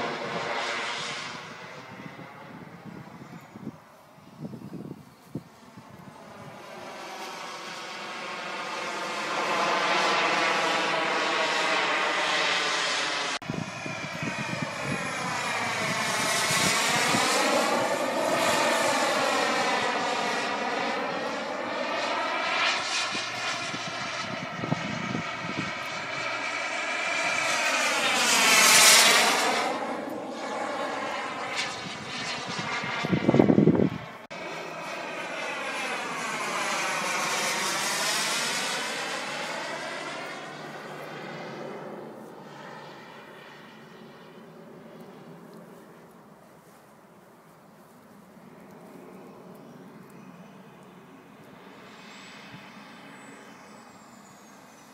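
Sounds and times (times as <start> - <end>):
jet turbine engine whine: 0.0 - 54.9.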